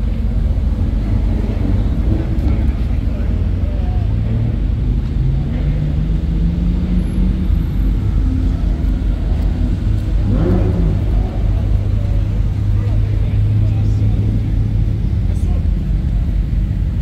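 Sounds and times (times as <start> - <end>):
sports car engines rumbling: 0.0 - 17.0.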